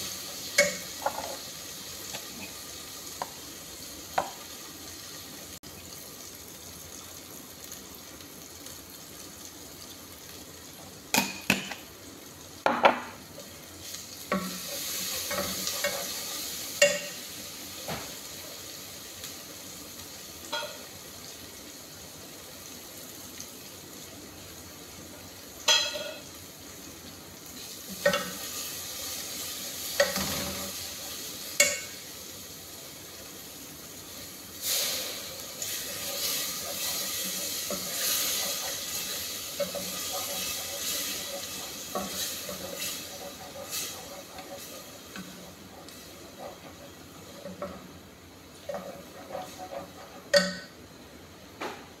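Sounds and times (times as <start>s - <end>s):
food sizzling in a pot: 0.0s - 51.9s.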